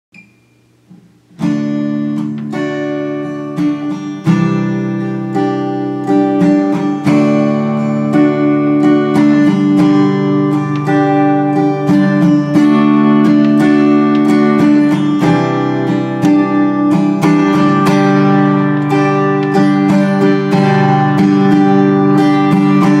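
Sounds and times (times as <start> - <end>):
acoustic guitar strumming chords: 0.2 - 23.0.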